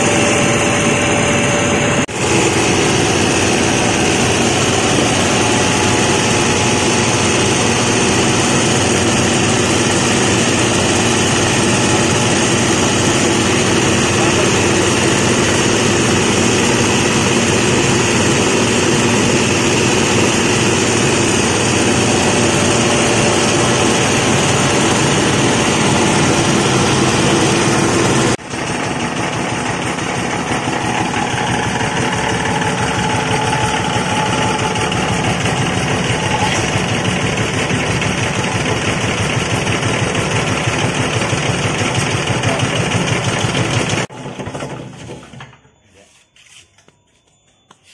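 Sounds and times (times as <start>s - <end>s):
grinding mill running under load: 0.0s - 46.2s.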